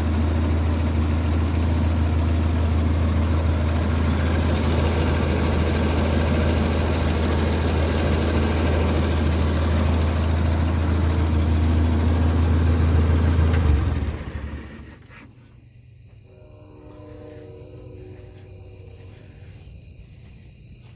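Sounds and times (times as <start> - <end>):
tractor engine idling: 0.0 - 20.9.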